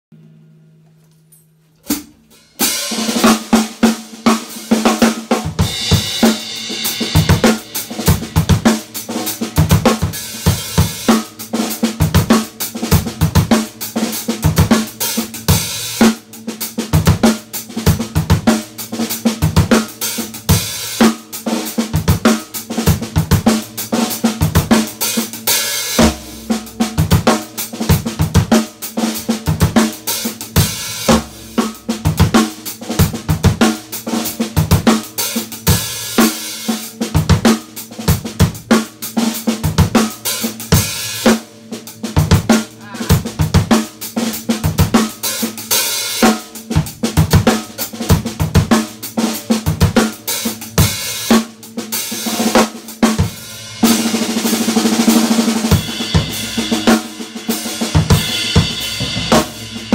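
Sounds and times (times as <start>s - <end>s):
drum kit groove: 1.7s - 59.9s.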